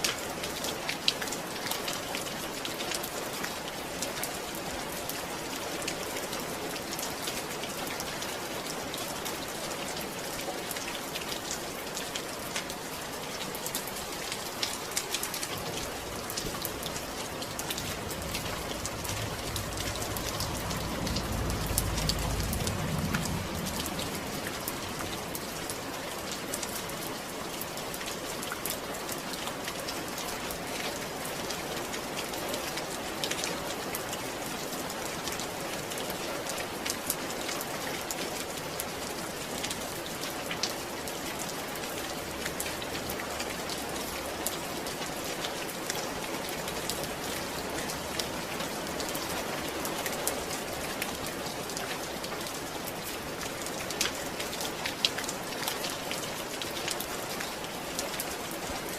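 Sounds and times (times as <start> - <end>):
rain drops pattering on surface: 0.0 - 58.9.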